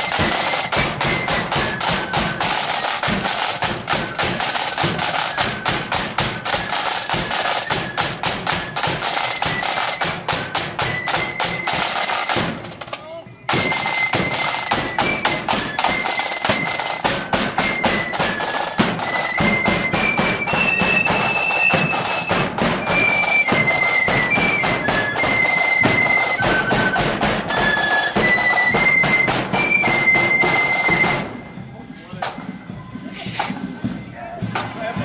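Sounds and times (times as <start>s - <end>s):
snare drum rolls: 0.0s - 31.5s, 32.2s - 35.0s
flutes playing high melody: 0.0s - 33.4s.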